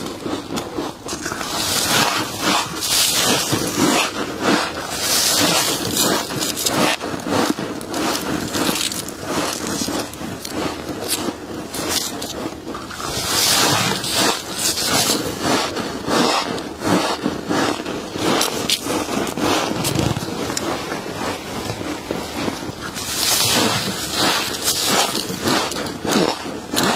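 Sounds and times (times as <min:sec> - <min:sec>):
frost crunching and scraping: 0:00.0 - 0:26.9.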